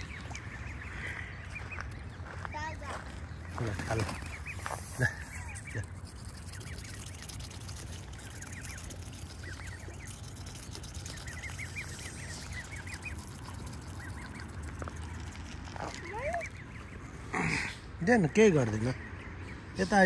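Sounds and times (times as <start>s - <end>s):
birds calling: 0.0s - 20.0s
steady low hum: 0.0s - 20.0s.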